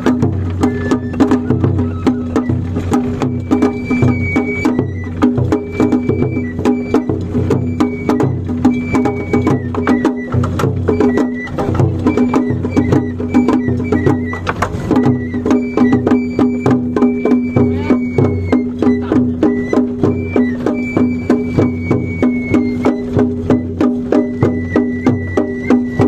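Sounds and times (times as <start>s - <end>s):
high piped melody: 0.0s - 26.0s
taiko drum beating: 0.0s - 26.0s.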